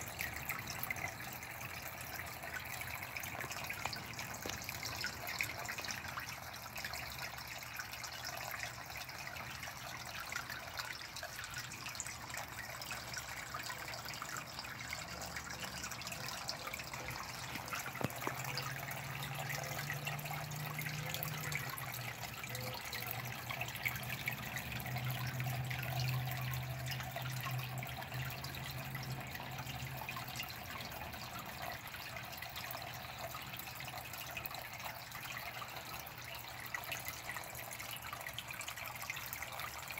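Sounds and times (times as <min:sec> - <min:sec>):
water trickling in a pond: 0:00.0 - 0:39.9.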